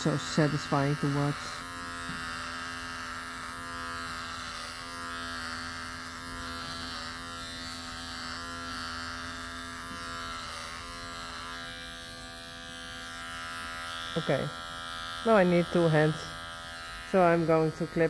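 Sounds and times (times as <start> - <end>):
electric horse clippers buzzing: 0.0 - 18.0.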